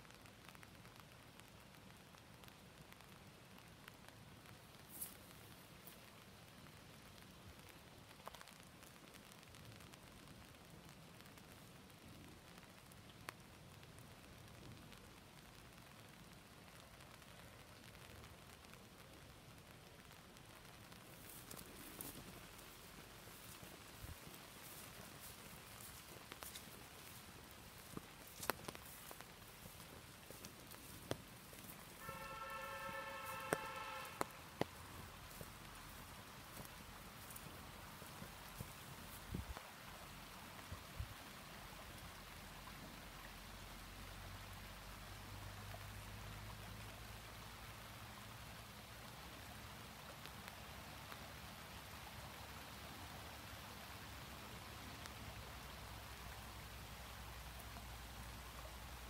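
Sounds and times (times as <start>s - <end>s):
drip-like ticks: 0.0s - 59.0s
faint water patter: 0.0s - 59.0s.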